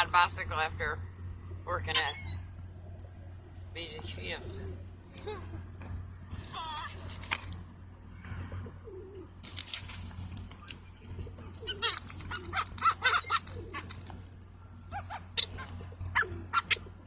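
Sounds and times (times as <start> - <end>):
birds calling: 0.0 - 7.2, 10.2 - 17.0.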